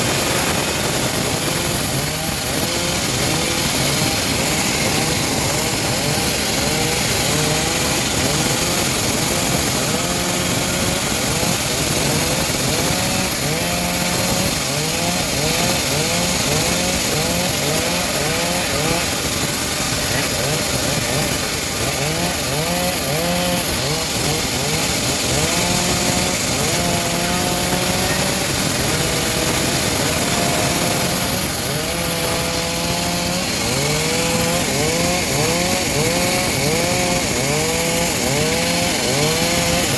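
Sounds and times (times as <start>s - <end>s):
bandsaw mill sawing wood: 0.0s - 39.9s.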